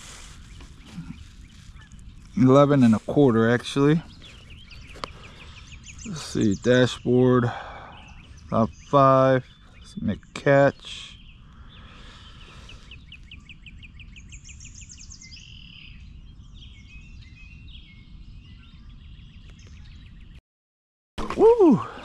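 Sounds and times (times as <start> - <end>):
songbirds singing: 0.0 - 20.4.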